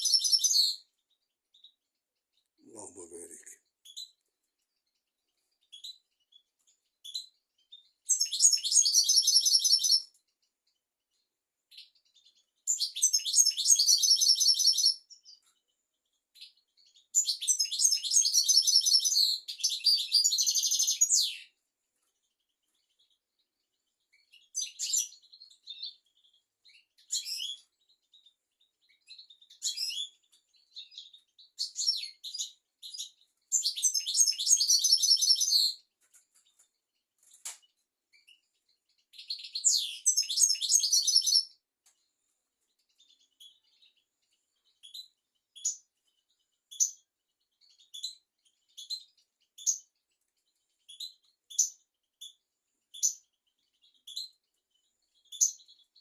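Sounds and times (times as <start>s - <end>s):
goldfinch twittering song: 0.0s - 21.6s, 22.7s - 35.9s, 37.6s - 41.6s, 42.7s - 56.0s.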